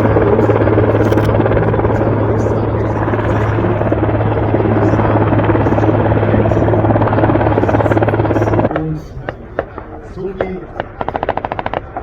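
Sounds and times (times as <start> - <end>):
aircraft drone: 0.0 - 12.0.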